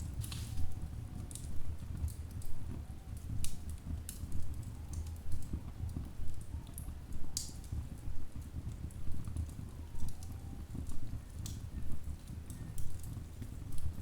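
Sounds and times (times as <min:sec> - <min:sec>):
logs crackling and popping: 0:00.0 - 0:02.6, 0:03.2 - 0:07.8, 0:08.4 - 0:14.0
low rumble of flames: 0:00.0 - 0:14.0.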